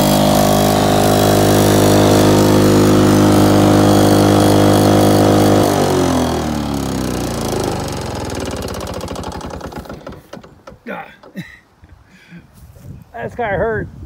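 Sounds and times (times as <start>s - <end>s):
lawn mower running: 0.0s - 11.6s
lawn mower spinning down: 0.0s - 11.6s.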